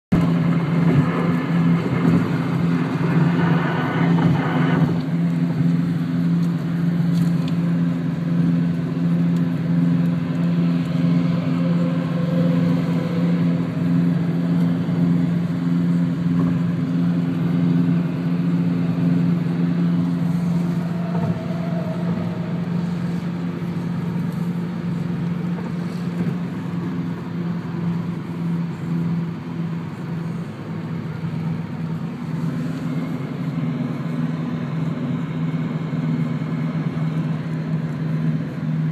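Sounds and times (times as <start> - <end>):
car engine drone: 0.1 - 38.9
tyre and road noise: 0.1 - 38.9.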